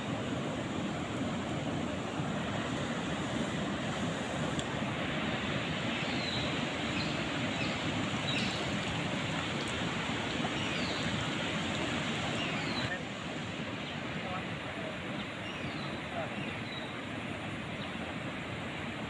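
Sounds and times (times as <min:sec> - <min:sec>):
river flowing: 0:00.0 - 0:19.0.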